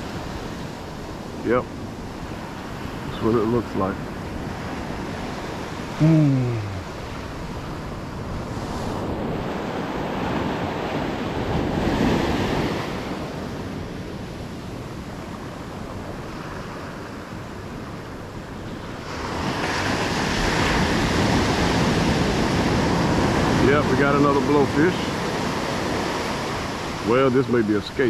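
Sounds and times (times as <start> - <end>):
wind on microphone: 0.0 - 27.3
ocean surf breaking on beach: 0.0 - 28.0.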